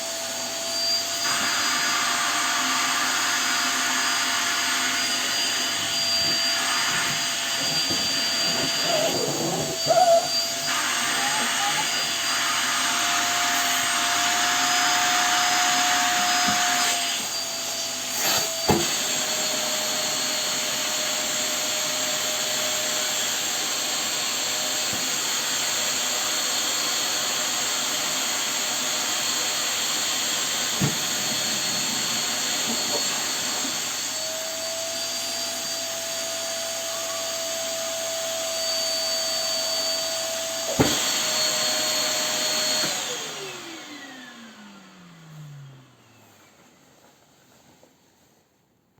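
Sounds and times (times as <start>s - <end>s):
vacuum cleaner running: 0.0s - 47.4s.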